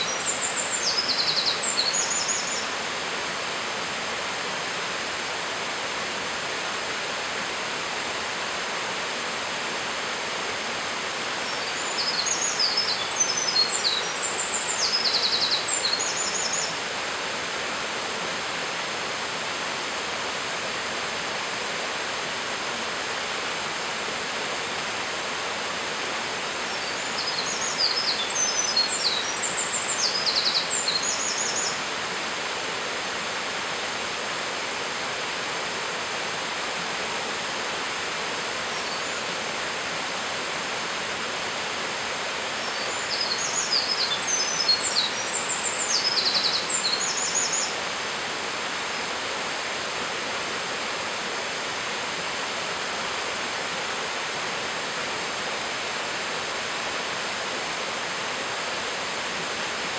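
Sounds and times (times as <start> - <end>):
stream and waterfall rushing: 0.0 - 59.9.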